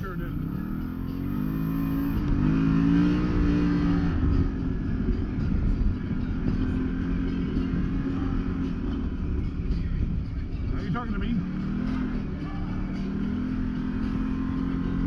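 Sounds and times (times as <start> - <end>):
engine revving: 0.0 - 9.9, 10.5 - 15.0
low rumble of driving: 0.0 - 15.0.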